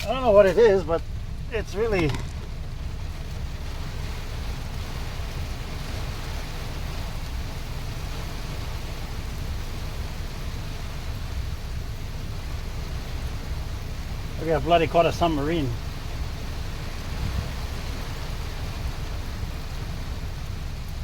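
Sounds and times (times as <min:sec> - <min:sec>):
low flickering rumble: 0:00.0 - 0:21.0
rain falling: 0:00.0 - 0:21.0.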